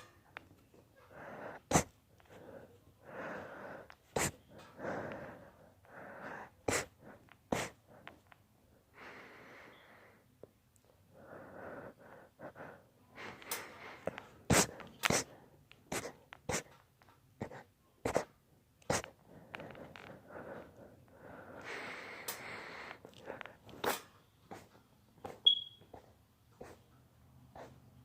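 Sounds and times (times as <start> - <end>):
heavy wheezy breathing: 0.7 - 16.8, 17.4 - 24.8.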